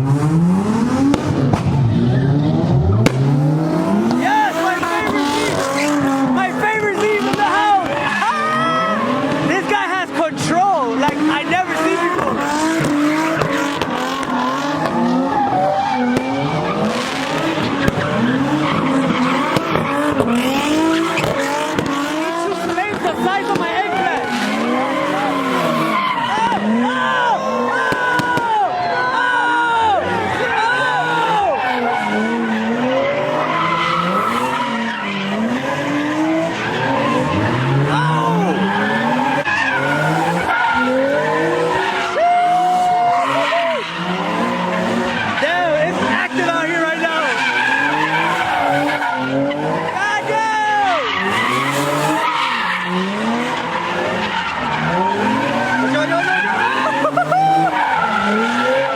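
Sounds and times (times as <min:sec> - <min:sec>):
car engine revving: 0:00.0 - 0:58.9
tyres squealing: 0:03.9 - 0:58.9.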